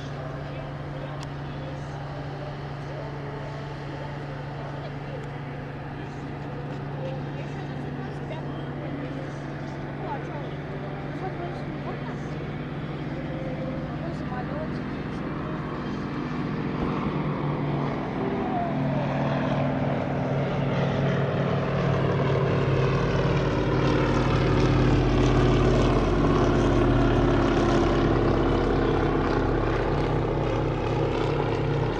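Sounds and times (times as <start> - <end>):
helicopter engines whining: 0.0 - 31.9.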